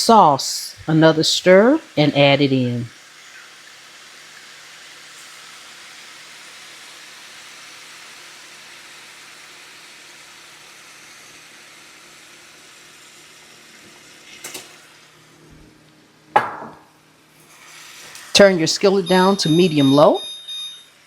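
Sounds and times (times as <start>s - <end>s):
stir fry sizzling in a skillet: 0.0s - 15.4s, 17.2s - 19.8s.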